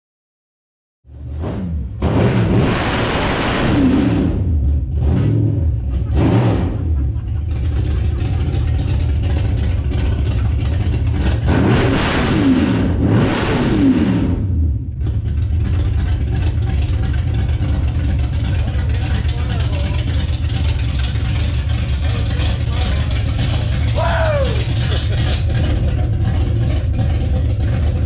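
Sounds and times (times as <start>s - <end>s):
loud car engine idling and revving: 1.0s - 28.0s.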